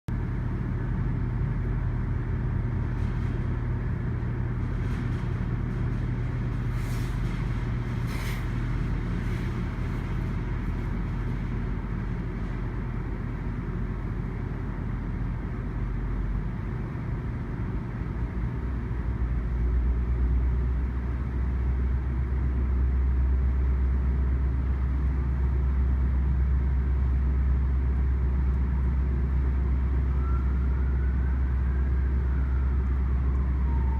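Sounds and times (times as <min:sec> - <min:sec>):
diesel locomotive engine droning: 0:00.1 - 0:33.9.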